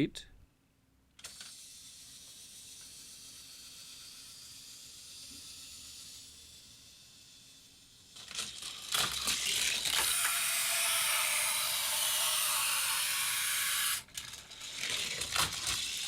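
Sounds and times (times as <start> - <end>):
toy car clacking on plastic track: 1.2 - 16.0
toy car wheels rushing on track: 1.2 - 16.0.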